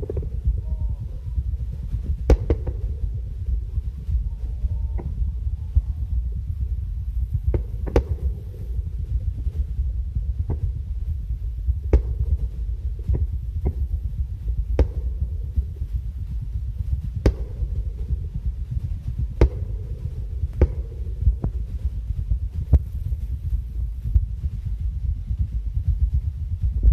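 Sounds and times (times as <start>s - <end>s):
fireworks bursting: 0.0s - 24.2s
low rumble: 0.0s - 26.9s.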